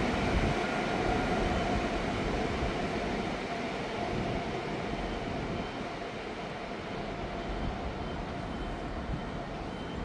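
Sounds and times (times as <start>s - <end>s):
train rumbling with faint whine: 0.0s - 10.0s.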